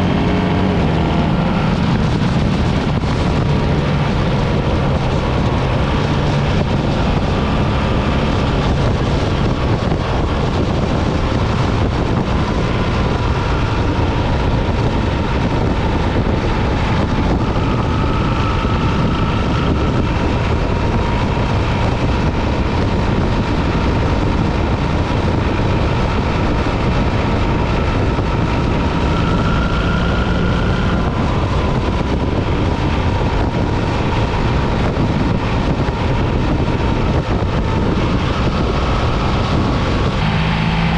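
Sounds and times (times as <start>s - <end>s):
heavy wind rush: 0.0s - 40.9s
motorcycle engine running: 0.0s - 40.9s.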